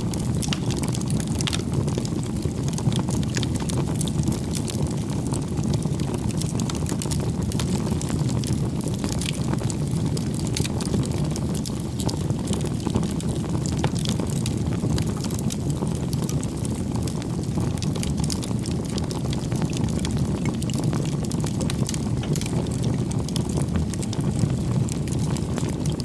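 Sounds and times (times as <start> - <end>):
burning wood crackling and popping: 0.0 - 26.0
campfire flames rumbling: 0.0 - 26.0.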